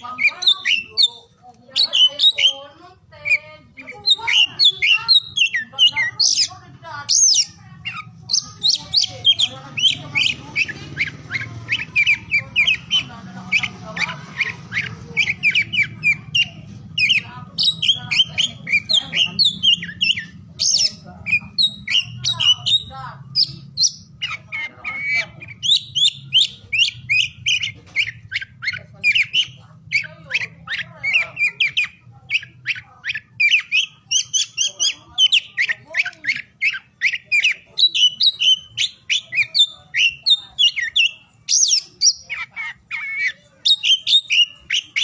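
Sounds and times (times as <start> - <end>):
bird singing whistled notes: 7.1 - 45.0.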